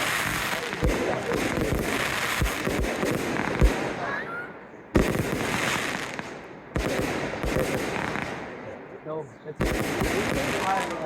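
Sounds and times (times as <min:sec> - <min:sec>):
fireworks bursting thumps: 0:00.0 - 0:04.0, 0:04.9 - 0:08.6, 0:09.6 - 0:11.0
fireworks crackling: 0:00.0 - 0:04.3, 0:04.9 - 0:08.8, 0:09.6 - 0:11.0
sharp fireworks bangs: 0:00.0 - 0:04.3, 0:04.9 - 0:08.8, 0:09.6 - 0:11.0.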